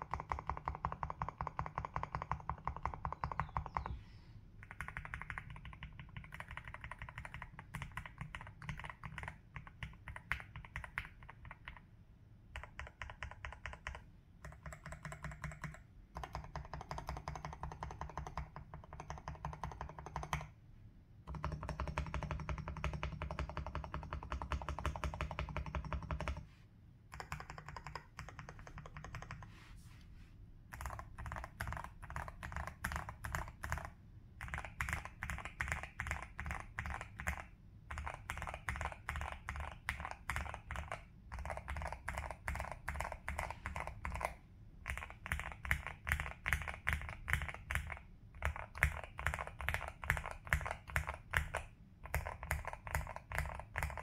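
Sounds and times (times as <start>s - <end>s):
mechanical keyboard typing: 0.0s - 3.9s, 4.6s - 11.9s, 12.5s - 20.5s, 21.3s - 26.4s, 27.1s - 29.5s, 30.7s - 54.0s.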